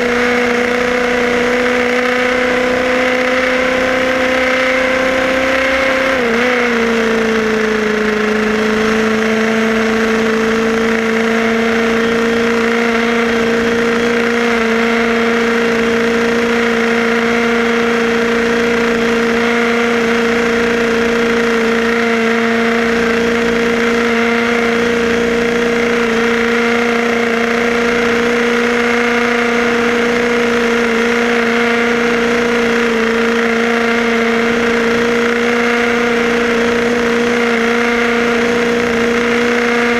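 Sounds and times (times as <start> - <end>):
small two-stroke engine running: 0.0 - 39.9.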